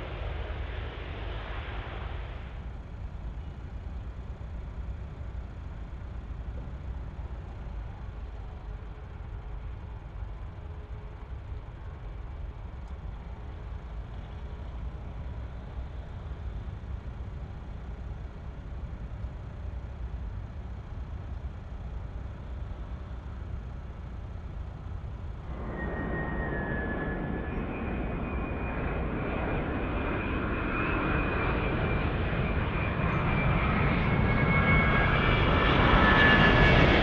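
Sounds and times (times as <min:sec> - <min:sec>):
distant airliner taxiing rumble: 0:00.0 - 0:37.0.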